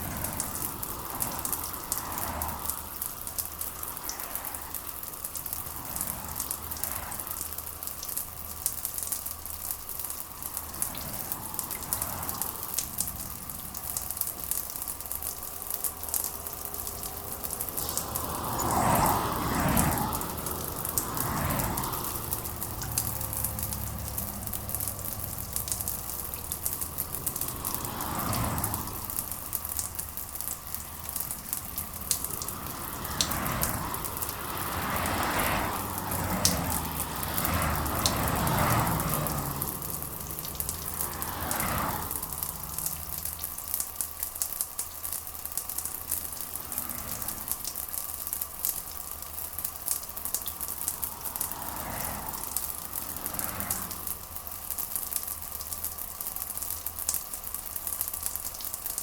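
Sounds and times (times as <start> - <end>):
rain pattering and crackling: 0.0 - 59.0.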